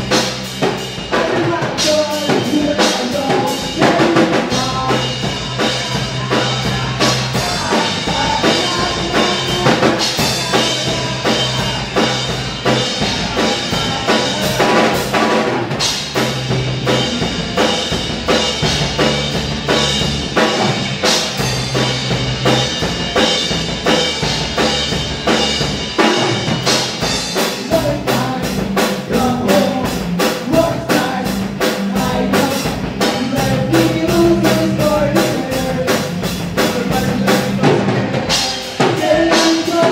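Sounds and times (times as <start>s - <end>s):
bass guitar: 0.0s - 39.9s
drum kit: 0.0s - 39.9s.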